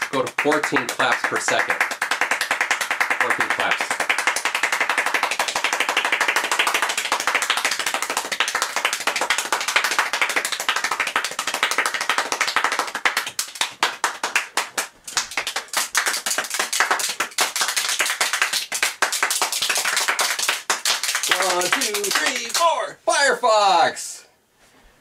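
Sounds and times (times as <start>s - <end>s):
fast hand clapping: 0.0s - 23.2s.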